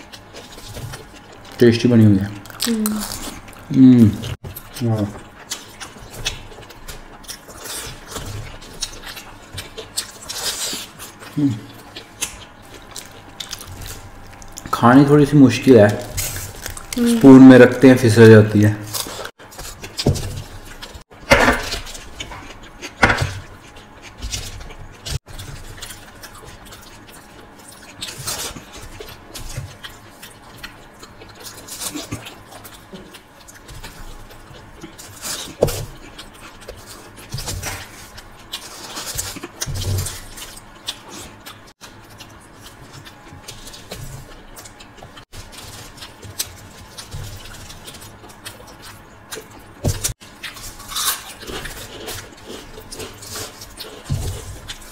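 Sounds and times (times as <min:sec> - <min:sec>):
chewing and mouth sounds: 0:00.0 - 0:17.9, 0:21.7 - 0:54.9.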